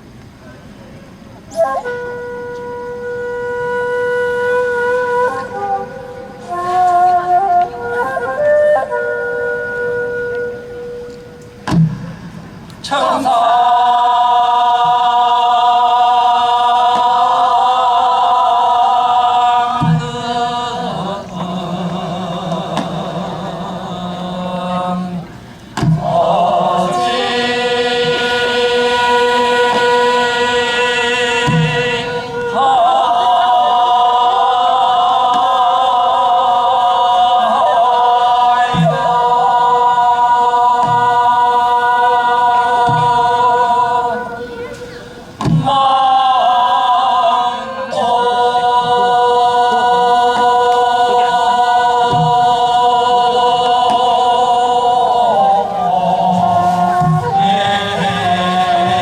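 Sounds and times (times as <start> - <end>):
person singing long wavering notes: 1.6 - 11.7, 12.8 - 59.0.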